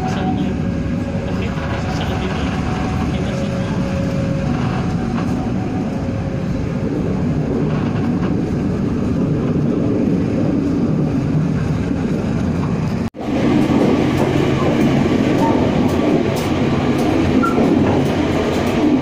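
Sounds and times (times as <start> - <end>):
train rumbling and rattling: 0.0 - 19.0.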